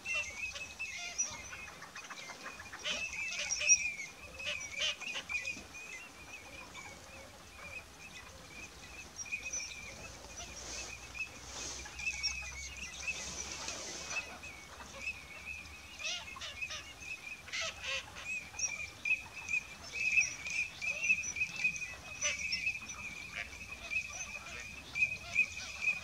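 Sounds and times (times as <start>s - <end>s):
high wavering bird chirring: 0.0s - 26.0s
short bird calls: 0.0s - 26.0s.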